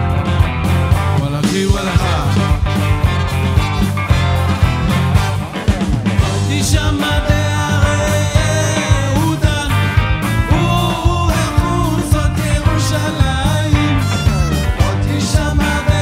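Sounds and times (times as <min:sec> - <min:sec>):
bass guitar: 0:00.0 - 0:16.0
drums: 0:00.0 - 0:16.0
electric guitar: 0:00.0 - 0:16.0
keyboard: 0:00.0 - 0:16.0.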